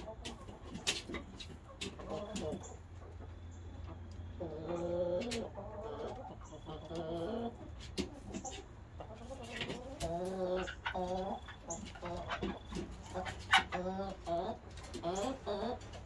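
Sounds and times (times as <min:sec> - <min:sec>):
hens murmuring: 0:00.0 - 0:16.0.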